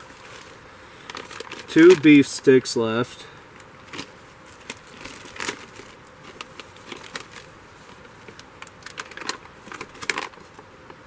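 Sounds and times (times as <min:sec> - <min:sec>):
plastic wrappers crinkling: 0:00.0 - 0:02.3, 0:03.6 - 0:10.7.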